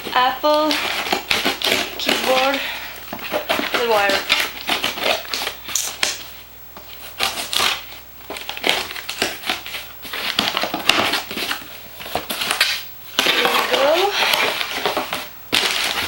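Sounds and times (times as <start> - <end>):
packaging rustling and crackling: 0.0 - 16.0.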